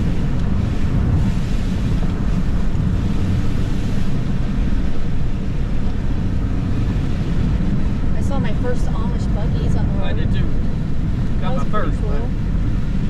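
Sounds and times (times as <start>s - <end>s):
tyre and engine rumble: 0.0s - 13.0s.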